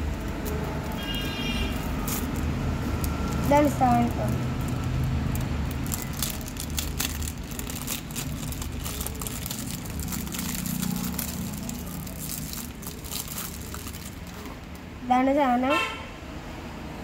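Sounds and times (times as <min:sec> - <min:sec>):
plastic wrap crinkling: 0:00.0 - 0:14.8.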